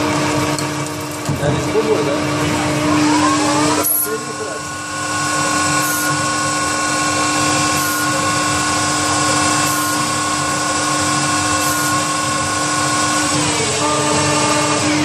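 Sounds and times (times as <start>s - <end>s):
lathe machine whine: 0.0s - 15.0s.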